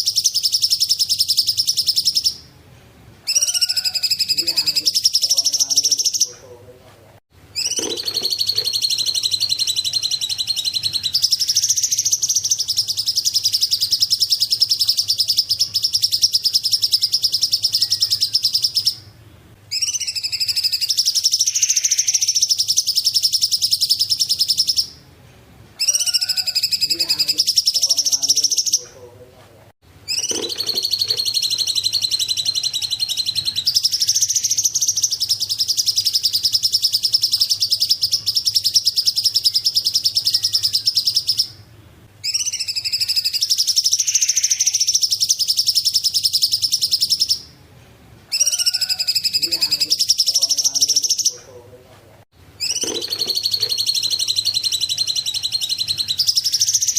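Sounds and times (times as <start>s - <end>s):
songbird trilling: 0.0s - 2.5s, 3.2s - 6.4s, 7.6s - 25.0s, 25.8s - 29.0s, 30.1s - 47.5s, 48.3s - 51.5s, 52.6s - 56.9s.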